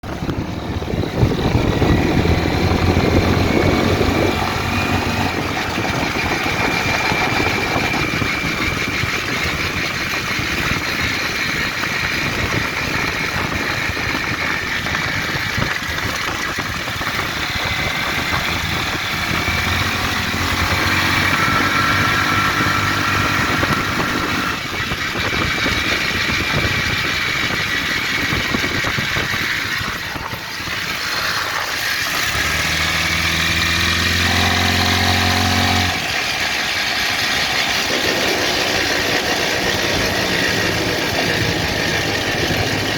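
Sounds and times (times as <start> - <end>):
buggy engine running: 0.0 - 42.9.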